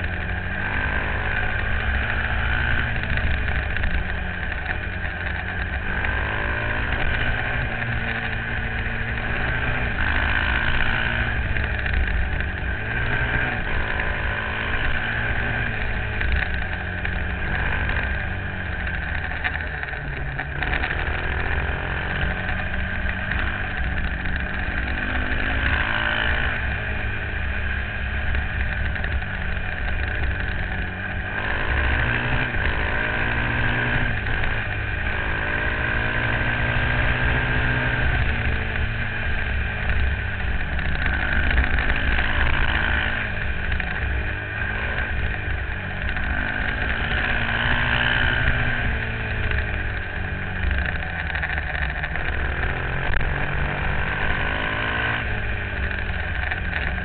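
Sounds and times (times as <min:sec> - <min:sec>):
motorcycle engine revving: 0:00.0 - 0:57.0
road noise: 0:00.0 - 0:57.0.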